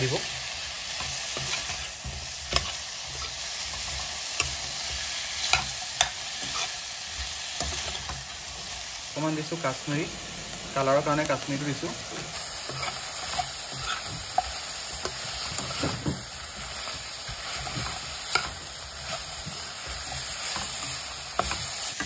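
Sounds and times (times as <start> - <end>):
meat and onions sizzling: 0.0 - 22.0.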